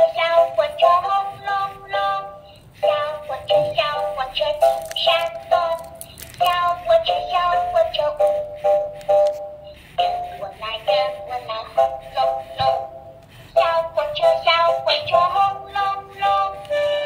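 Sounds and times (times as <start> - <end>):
toy playing electronic children's song: 0.0 - 17.0.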